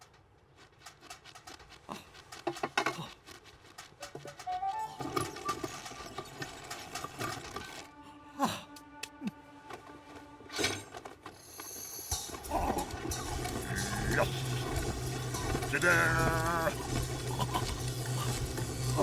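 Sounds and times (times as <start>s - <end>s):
light cartoon music: 3.4s - 19.0s.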